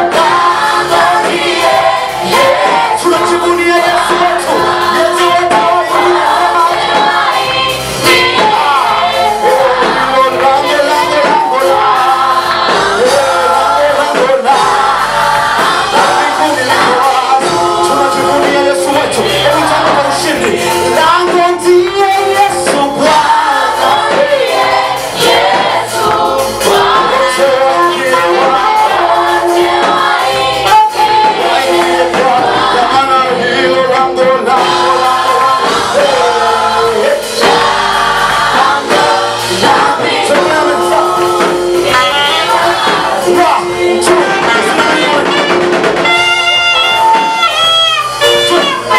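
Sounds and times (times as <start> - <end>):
choir singing gospel song: 0.0 - 48.9
musical accompaniment: 0.0 - 48.9.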